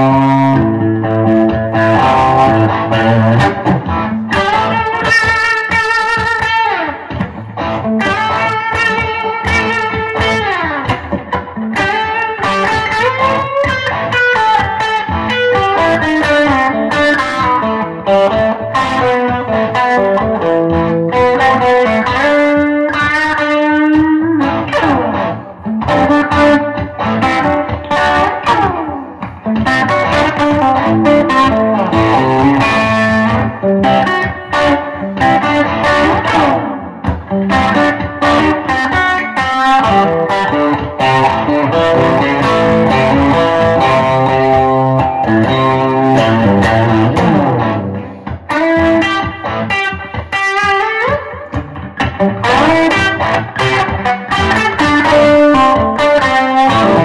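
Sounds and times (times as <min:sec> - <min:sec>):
electric guitar playing: 0:00.0 - 0:57.0.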